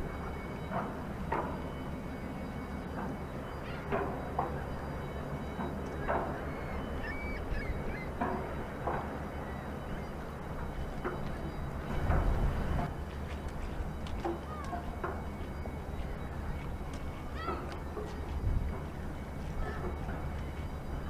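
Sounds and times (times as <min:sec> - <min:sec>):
low ship engine hum: 0:00.0 - 0:21.0.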